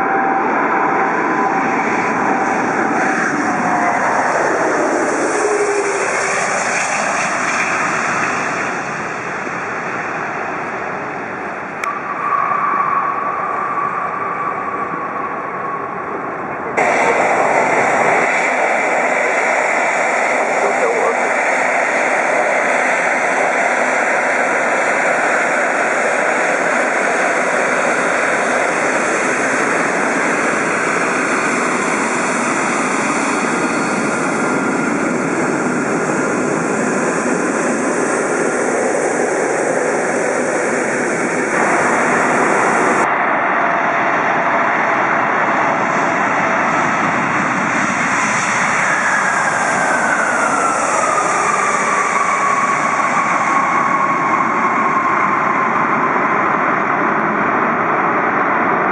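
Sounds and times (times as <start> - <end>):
falling jet whine: 0.0 - 58.4
jet engines running: 0.0 - 58.9.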